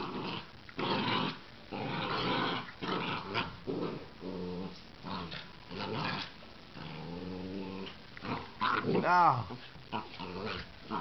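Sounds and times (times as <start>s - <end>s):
dogs growling and snarling: 0.0s - 11.0s.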